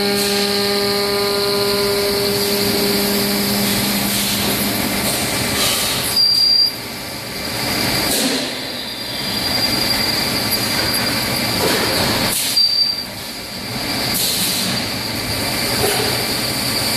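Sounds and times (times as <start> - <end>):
metal lathe whining: 0.0 - 8.1, 8.7 - 16.9.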